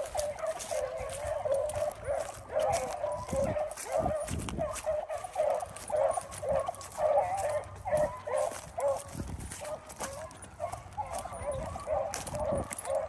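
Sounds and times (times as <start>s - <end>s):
dogs baying: 0.0s - 13.0s
footsteps in grass: 0.0s - 13.0s.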